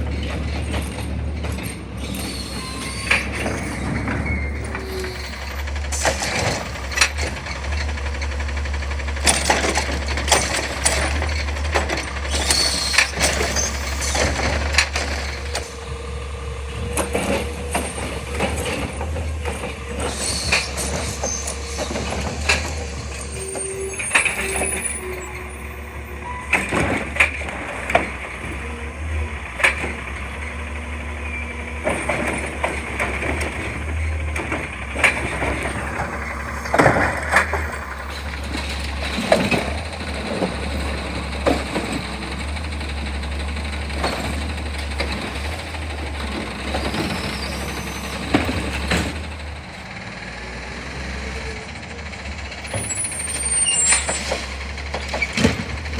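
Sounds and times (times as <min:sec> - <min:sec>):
garbage truck engine running: 0:00.0 - 0:55.9.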